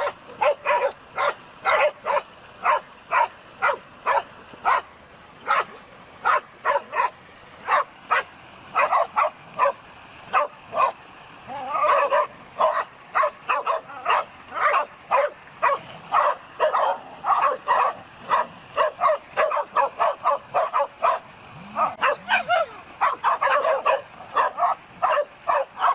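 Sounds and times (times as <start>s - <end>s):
dogs barking: 0.0s - 25.9s.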